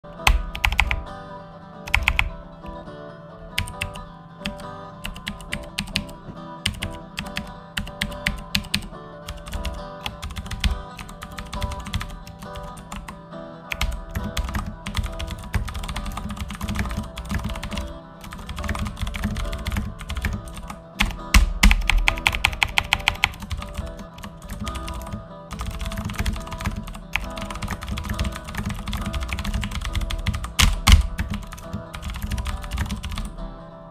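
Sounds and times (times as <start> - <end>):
background music: 0.0 - 33.9
keyboard typing clicks: 0.2 - 1.1, 1.9 - 2.4, 3.6 - 33.3.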